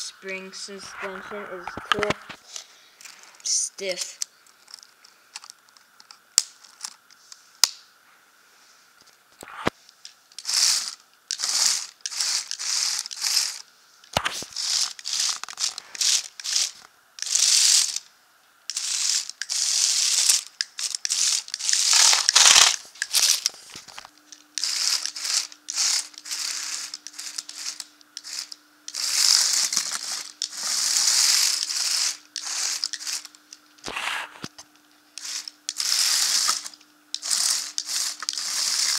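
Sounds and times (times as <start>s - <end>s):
toy tracks and motors clattering: 0.0s - 7.7s, 9.0s - 38.9s
faint steady hum: 0.0s - 38.9s.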